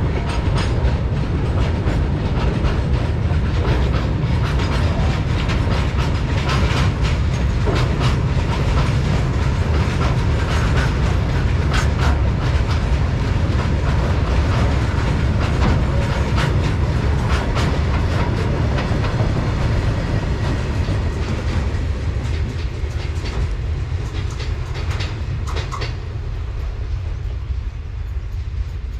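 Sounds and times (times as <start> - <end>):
freight train rumbling past: 0.0 - 28.9
wheels clacking over rail joints: 0.0 - 28.9.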